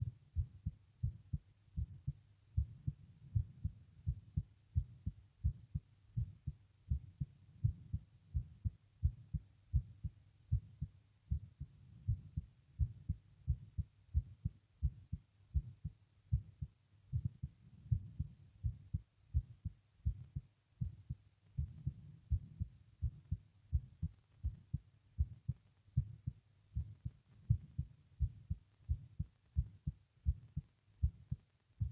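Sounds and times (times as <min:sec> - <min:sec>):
faint steady hiss: 0:00.0 - 0:31.9
heartbeat thumps: 0:00.0 - 0:31.9.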